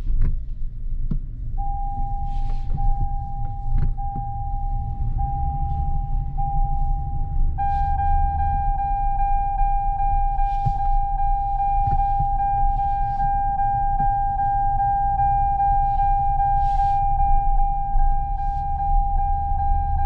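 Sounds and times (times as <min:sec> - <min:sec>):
electronic warning tone: 0:01.6 - 0:20.0.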